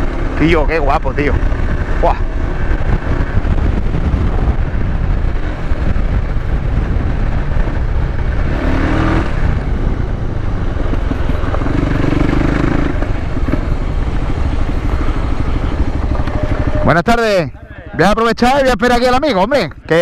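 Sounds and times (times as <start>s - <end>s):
motorcycle engine running: 0.0s - 20.0s
wind noise: 0.0s - 20.0s.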